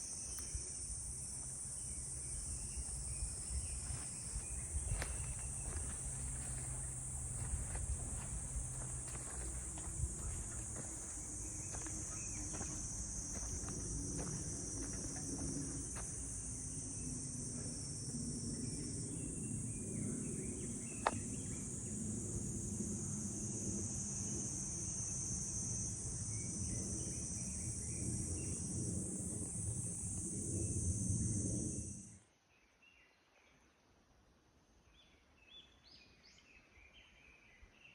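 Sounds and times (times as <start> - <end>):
high-pitched insect chorus: 0.0 - 32.2.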